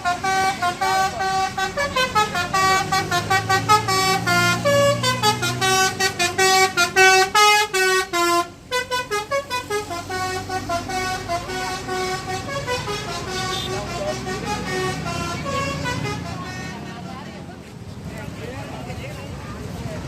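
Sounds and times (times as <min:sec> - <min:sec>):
musical bus horn: 0:00.0 - 0:17.4
low engine rumble: 0:00.0 - 0:20.0.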